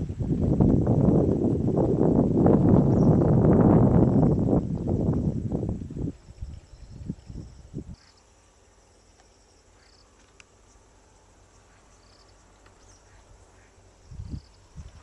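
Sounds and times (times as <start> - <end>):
insects chirping: 2.4 - 15.0.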